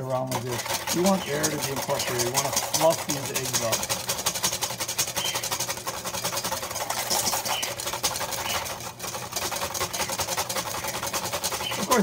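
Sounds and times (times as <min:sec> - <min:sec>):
whisk rattling in metal bowl: 0:00.0 - 0:12.0.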